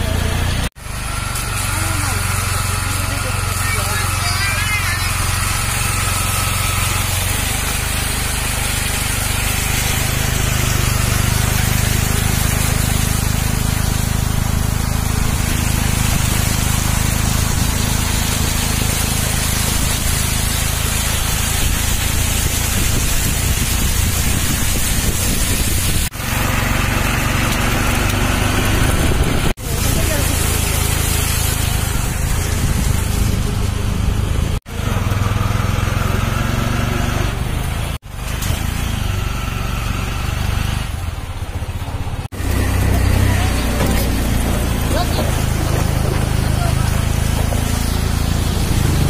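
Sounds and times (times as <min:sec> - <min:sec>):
vehicle engine running: 0:00.0 - 0:49.0
wheels splashing through water: 0:00.0 - 0:49.0.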